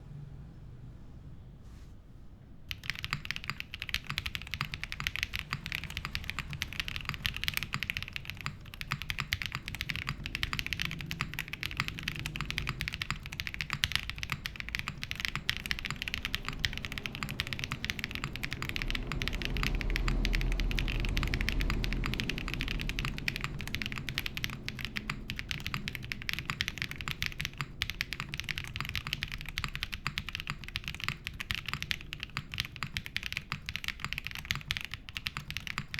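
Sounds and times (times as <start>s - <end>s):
mechanical keyboard typing: 2.7s - 35.9s.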